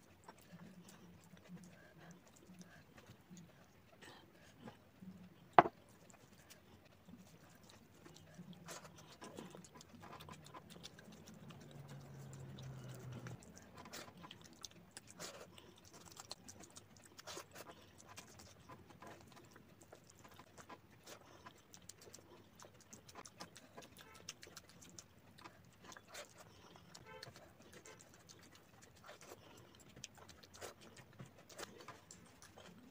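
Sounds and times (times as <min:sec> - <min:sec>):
chewing: 0:00.0 - 0:32.9.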